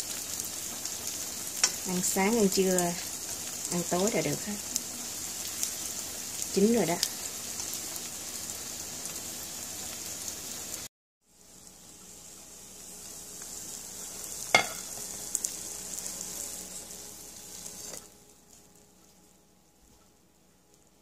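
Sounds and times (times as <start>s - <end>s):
omelet sizzling in a frying pan: 0.0s - 21.0s.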